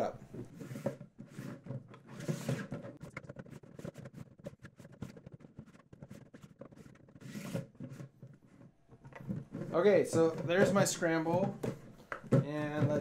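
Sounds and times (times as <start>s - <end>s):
plastic puzzle cube layers turning: 0.5s - 11.6s.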